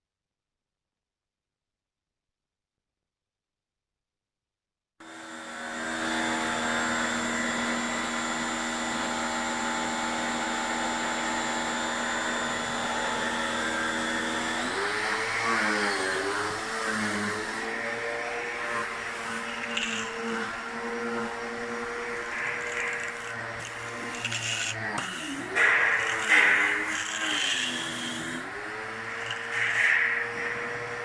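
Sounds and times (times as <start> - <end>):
electric motor machine running: 5.0 - 31.0.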